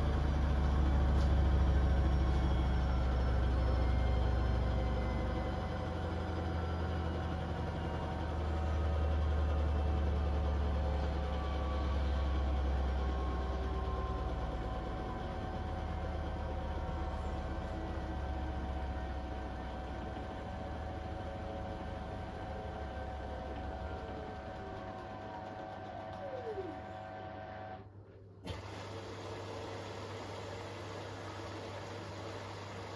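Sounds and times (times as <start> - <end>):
washing machine spinning: 0.0 - 32.9.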